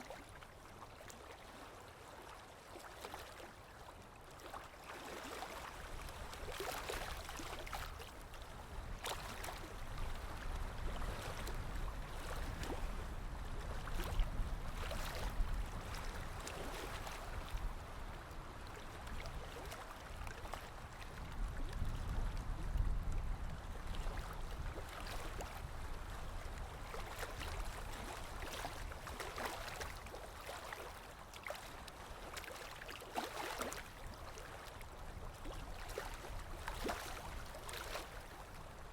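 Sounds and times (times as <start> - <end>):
small waves sloshing: 0.0 - 38.9.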